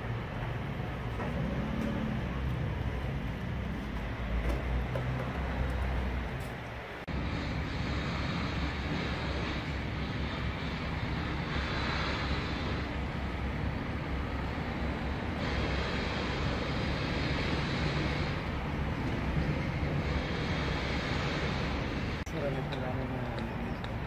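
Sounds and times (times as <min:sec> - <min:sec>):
distant road traffic hiss: 0:00.0 - 0:24.0.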